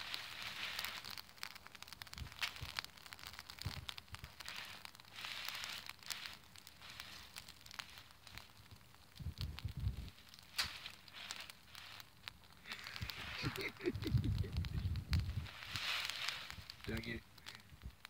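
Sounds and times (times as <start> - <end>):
dry leaves crackling and rustling: 0.0 - 18.0.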